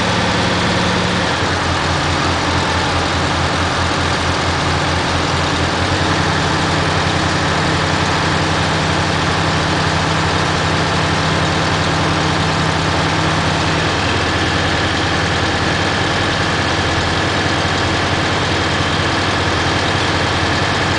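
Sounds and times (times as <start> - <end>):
heavy truck engine idling: 0.0 - 20.9.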